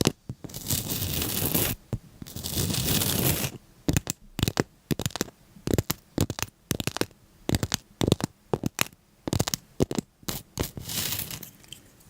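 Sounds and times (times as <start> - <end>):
crisp scratching and crackling: 0.0 - 11.8.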